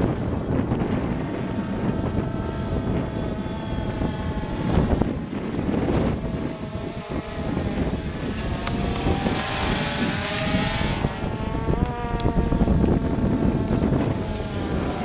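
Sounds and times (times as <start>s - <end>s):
drone propellers whining: 0.0s - 15.0s
wind buffeting microphone: 0.0s - 15.0s.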